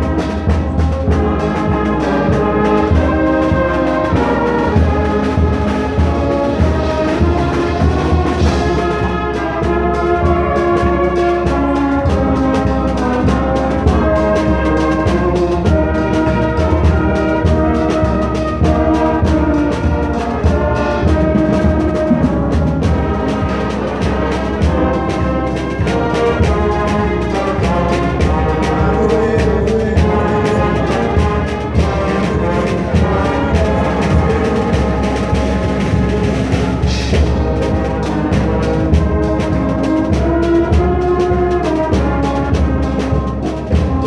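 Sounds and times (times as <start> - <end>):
brass band playing a hymn: 0.0 - 44.0
percussion strokes: 0.0 - 44.0.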